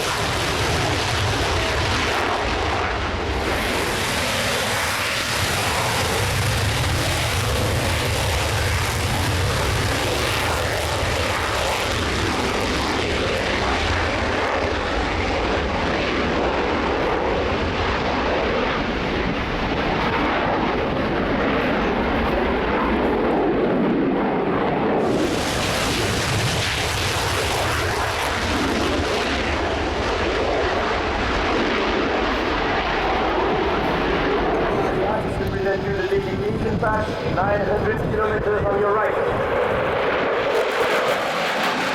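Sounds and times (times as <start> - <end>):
aircraft engine noise: 0.0 - 41.9.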